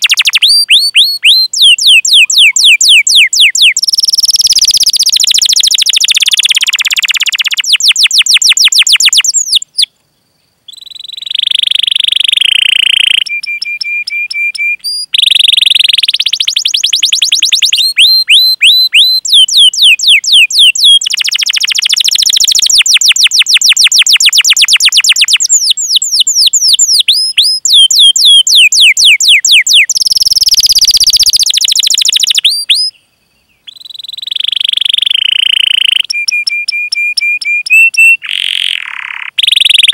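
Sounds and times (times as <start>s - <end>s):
canary singing: 0.0s - 9.9s, 10.7s - 33.0s, 33.6s - 39.9s.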